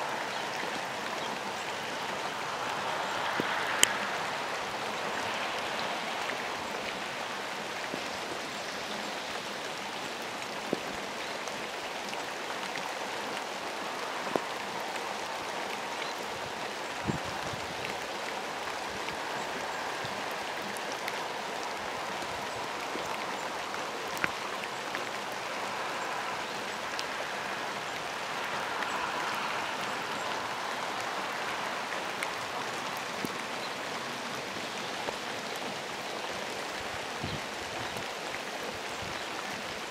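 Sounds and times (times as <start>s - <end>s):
raindrops ticking close by: 0.0s - 39.9s
steady rain falling: 0.0s - 39.9s.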